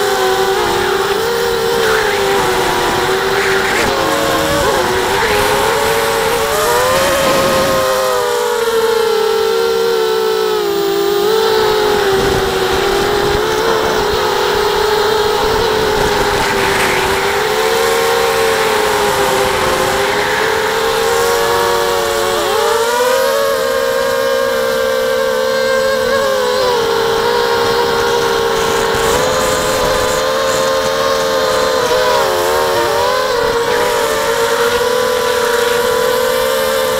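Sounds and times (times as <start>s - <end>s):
quadcopter motors whining: 0.0s - 36.9s.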